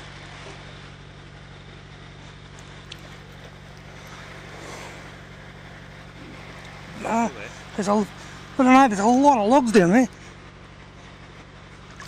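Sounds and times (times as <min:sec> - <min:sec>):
pump engine humming: 0:00.0 - 0:12.0.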